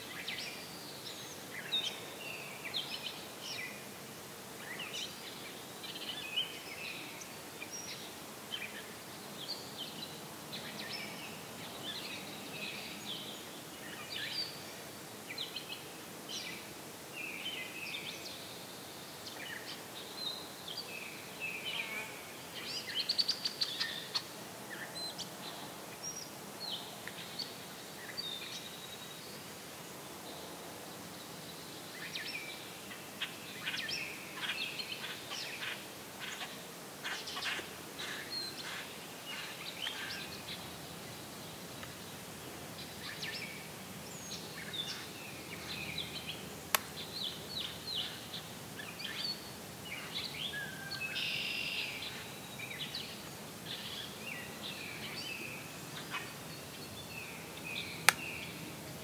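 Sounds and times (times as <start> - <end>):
songbirds chirping and warbling: 0.0 - 59.0.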